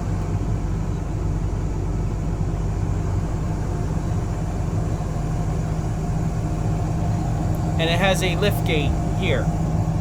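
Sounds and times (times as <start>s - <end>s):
large engine idling: 0.0s - 10.0s.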